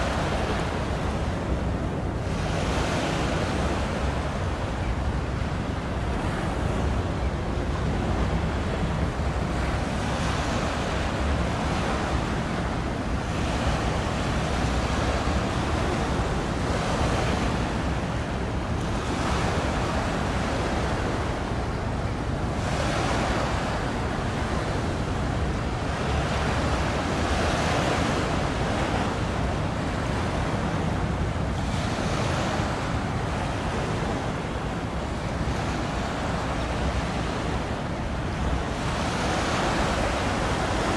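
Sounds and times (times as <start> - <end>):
sea waves washing in: 0.0 - 40.9.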